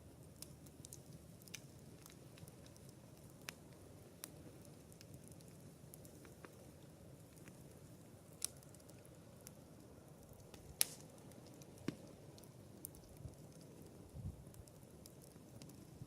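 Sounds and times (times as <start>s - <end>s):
campfire burning: 0.0s - 16.0s
fire crackles and pops: 0.0s - 16.0s.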